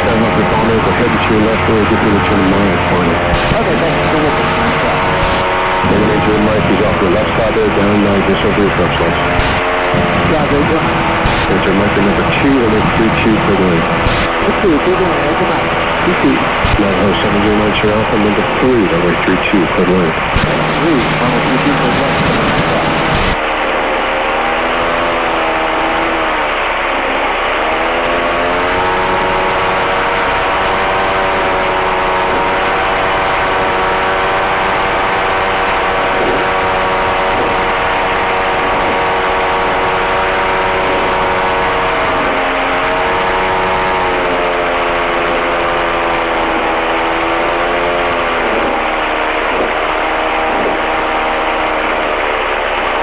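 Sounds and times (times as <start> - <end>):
two-stroke aircraft engine: 0.0 - 53.0.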